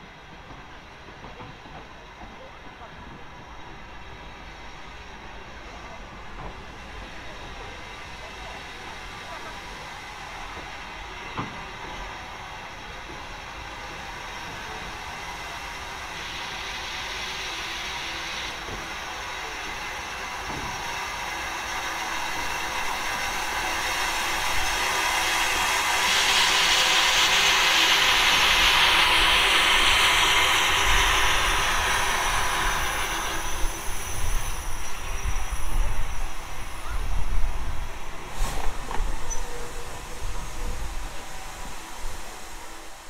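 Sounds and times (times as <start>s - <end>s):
train passing: 0.0s - 43.0s.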